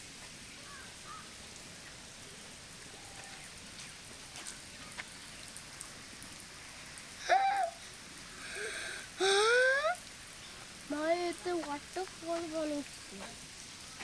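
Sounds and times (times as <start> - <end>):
falling water hissing: 0.0 - 14.0.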